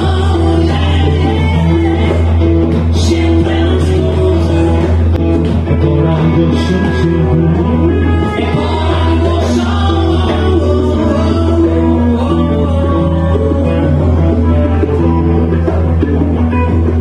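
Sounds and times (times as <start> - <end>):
didgeridoo drone: 0.0 - 17.0
drums: 0.0 - 17.0
guitar: 0.0 - 17.0.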